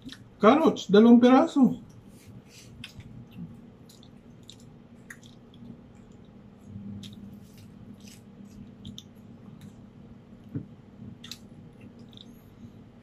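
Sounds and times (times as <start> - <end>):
person chewing bread: 0.0 - 0.4, 1.8 - 13.0.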